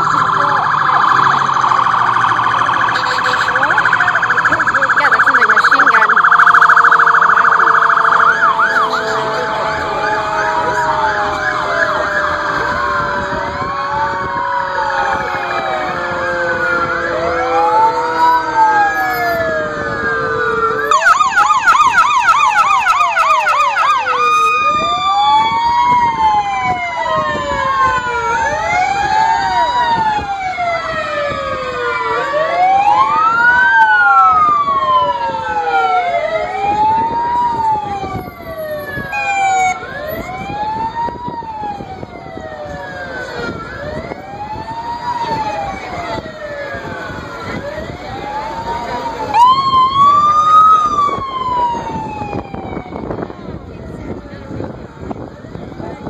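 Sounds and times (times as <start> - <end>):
fire engine sirens wailing: 0.0 - 56.0.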